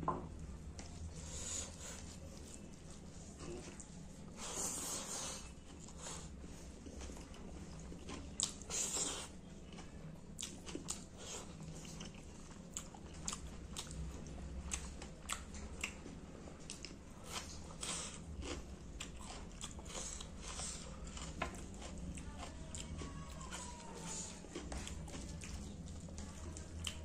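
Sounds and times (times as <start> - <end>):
close chewing: 0.7 - 27.0.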